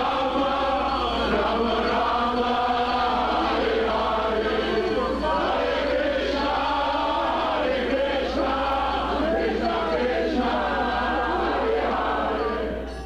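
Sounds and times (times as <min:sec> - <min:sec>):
group chanting: 0:00.0 - 0:13.0
steady low hum: 0:00.0 - 0:13.0.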